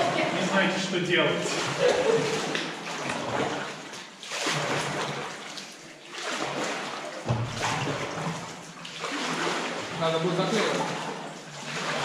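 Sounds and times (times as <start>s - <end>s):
oar strokes splashing in water: 0.0s - 12.0s.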